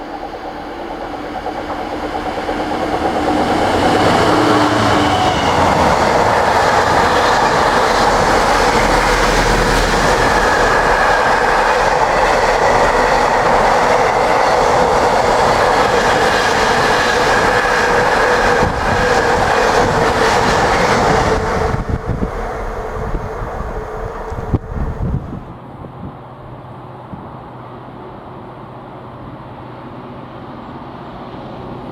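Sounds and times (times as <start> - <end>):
freight train wagons rolling past: 0.0 - 25.6.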